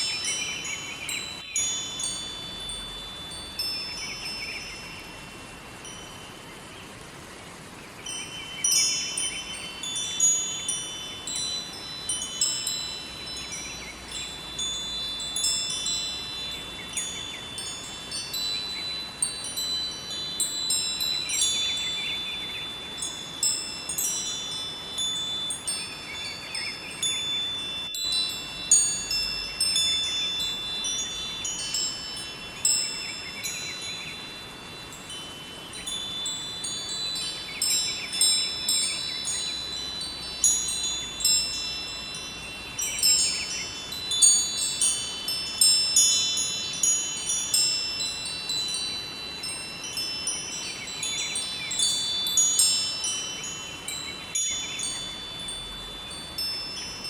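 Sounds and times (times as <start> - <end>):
river flowing: 0.0 - 57.0
wind chimes ringing: 0.0 - 57.0.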